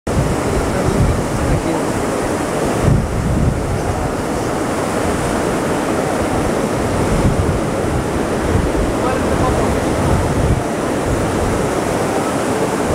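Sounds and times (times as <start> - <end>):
sea surf breaking: 0.1 - 12.9
wind buffeting microphone: 0.1 - 12.9.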